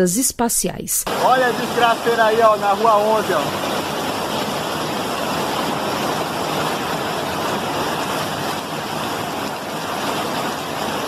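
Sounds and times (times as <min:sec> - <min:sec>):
floodwater rushing down a street: 0:01.1 - 0:11.0.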